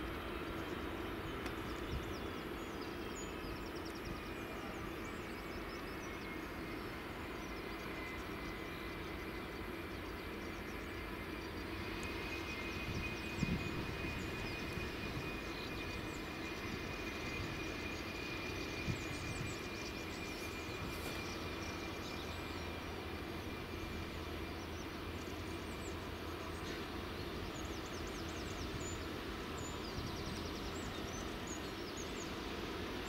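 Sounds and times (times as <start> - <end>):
high engine whine: 0.0 - 33.0
jet engines running: 0.0 - 33.0.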